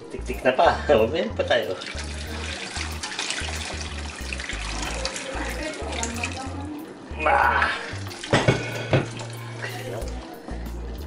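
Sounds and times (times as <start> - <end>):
background music with beat: 0.0 - 11.0
liquid pouring through strainer: 1.4 - 10.3.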